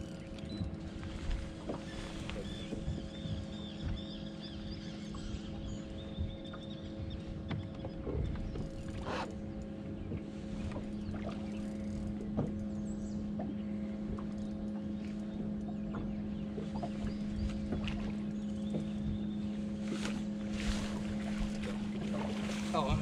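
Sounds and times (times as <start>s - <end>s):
boat motor humming: 0.0s - 23.0s
low wind: 0.0s - 23.0s
water rumble: 0.0s - 23.0s.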